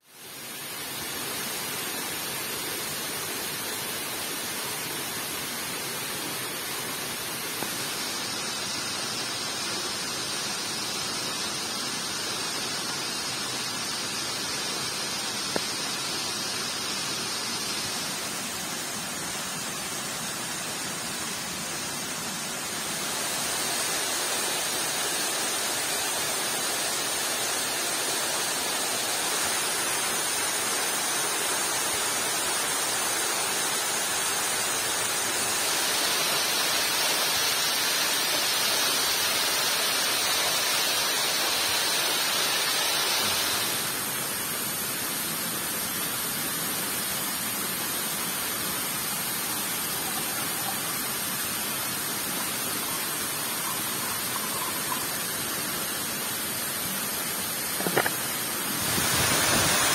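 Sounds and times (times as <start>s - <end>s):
rain and waterfall rushing: 0.0s - 59.9s.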